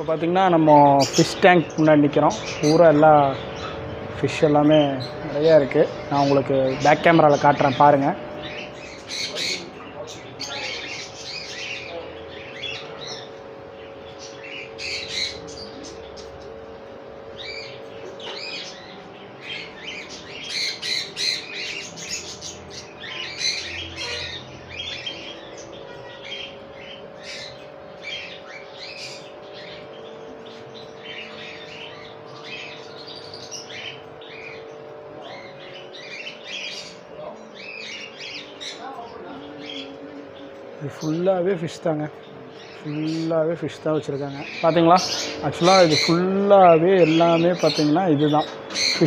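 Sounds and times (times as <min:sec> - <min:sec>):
caged birds chirping and squawking: 0:00.0 - 0:49.0
steady low hum: 0:00.0 - 0:49.0.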